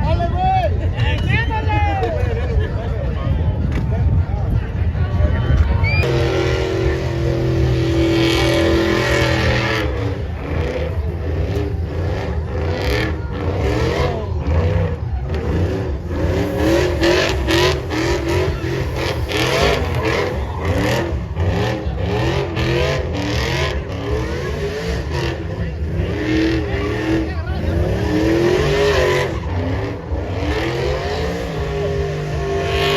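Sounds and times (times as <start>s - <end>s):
truck engine revving: 4.8s - 32.9s.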